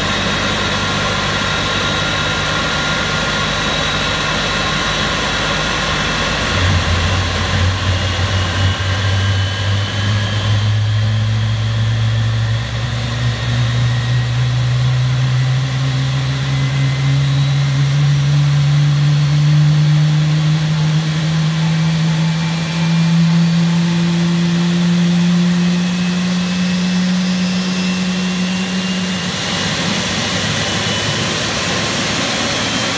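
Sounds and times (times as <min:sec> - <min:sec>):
high engine whines: 0:00.0 - 0:32.9
jet engine spooling up: 0:00.0 - 0:32.9
rough engine rush: 0:00.0 - 0:32.9.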